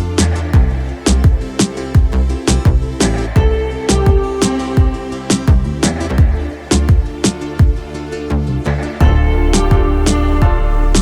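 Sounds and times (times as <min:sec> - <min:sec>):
background music with drum beat: 0:00.0 - 0:08.0, 0:08.8 - 0:11.0.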